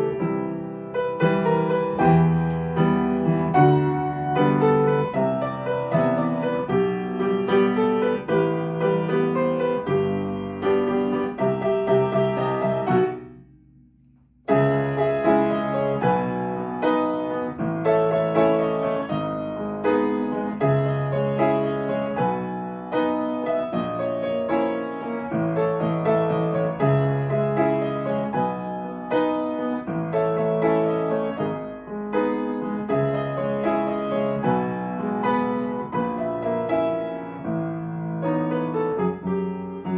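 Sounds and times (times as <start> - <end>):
soft piano music: 0.0 - 39.9.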